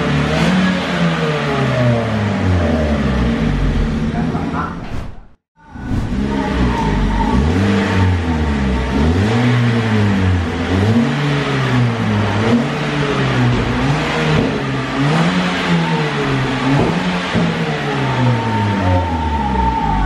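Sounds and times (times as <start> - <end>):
car engine revving: 0.0 - 4.8, 5.7 - 20.0.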